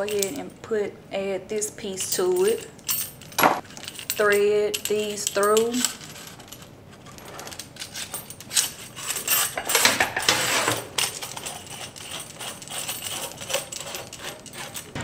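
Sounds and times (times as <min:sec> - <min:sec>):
metal hoses and fittings clinking: 0:02.1 - 0:15.0.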